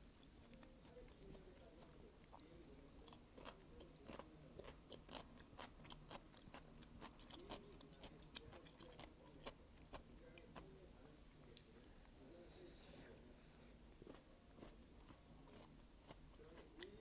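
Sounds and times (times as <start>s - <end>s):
person chewing with crunches: 0.2s - 12.2s, 12.8s - 17.0s.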